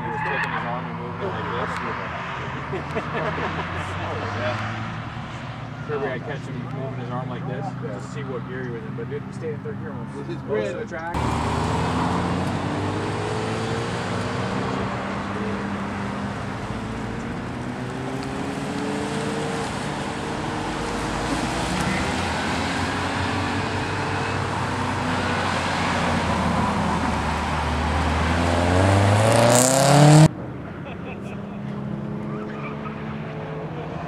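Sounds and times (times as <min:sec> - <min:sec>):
car accelerating: 0:00.0 - 0:34.0
car engines rolling slowly: 0:00.0 - 0:34.0.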